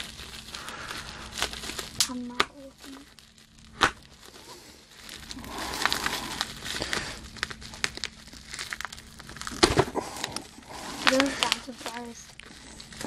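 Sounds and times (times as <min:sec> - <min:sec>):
shrink wrap crinkling: 0:00.0 - 0:13.0.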